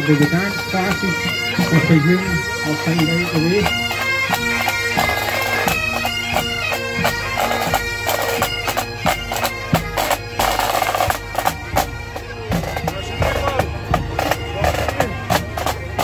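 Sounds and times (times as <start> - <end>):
bagpipes melody with drones: 0.0 - 16.0.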